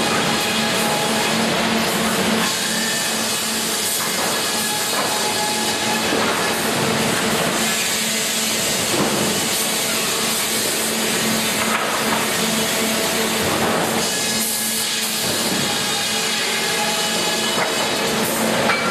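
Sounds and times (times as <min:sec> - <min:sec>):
sawmill machinery running: 0:00.0 - 0:18.9.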